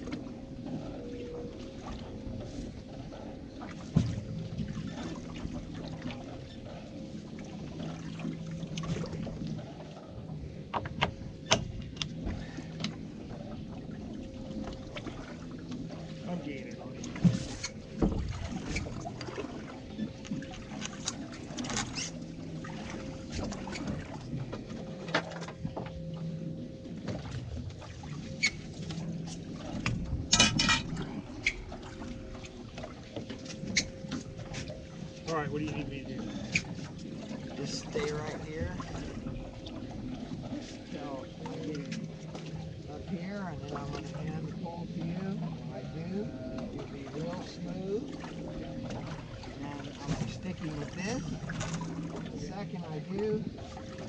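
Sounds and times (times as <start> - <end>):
boat engine idling: 0.0 - 54.0
faint steady hum: 0.0 - 54.0.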